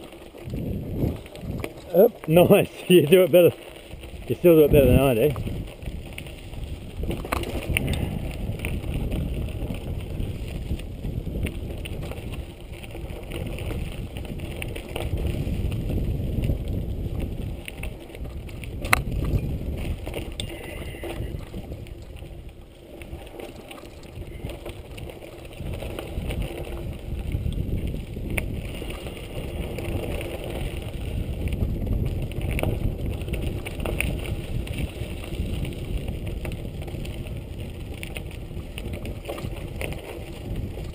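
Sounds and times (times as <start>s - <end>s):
bike rattling over bumps: 0.0s - 40.9s
bike tyres on loose dirt: 0.0s - 40.9s
wind buffeting microphone: 0.0s - 40.9s.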